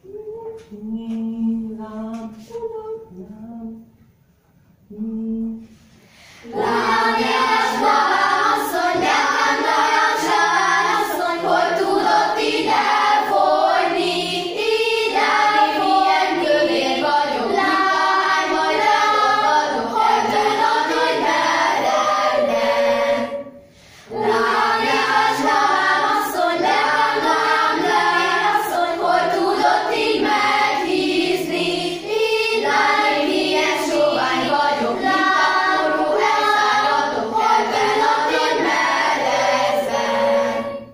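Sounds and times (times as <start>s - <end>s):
girls choir singing: 6.4s - 40.9s.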